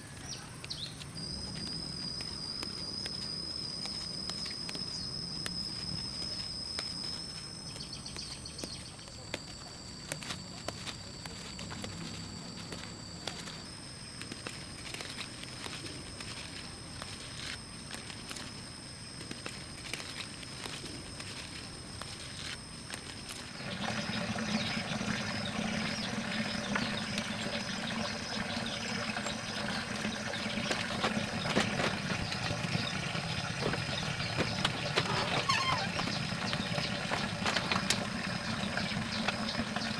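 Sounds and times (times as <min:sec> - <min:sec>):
small engine running rough: 0:01.2 - 0:39.9.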